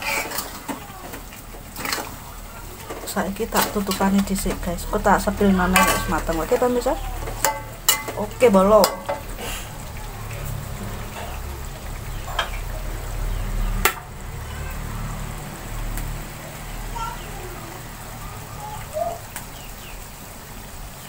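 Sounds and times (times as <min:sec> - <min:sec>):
chicken sizzling in a wok: 0:00.0 - 0:21.0
gas burner rumble: 0:00.0 - 0:21.0.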